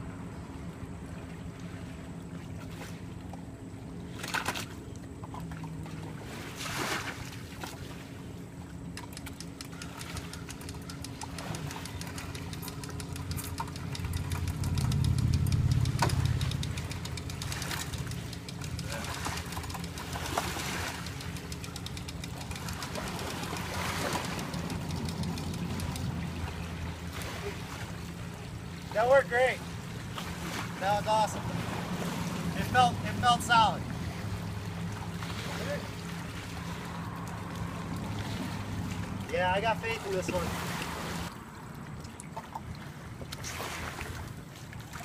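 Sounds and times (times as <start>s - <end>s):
low engine hum: 0.0s - 45.0s
water sloshing: 0.5s - 45.0s.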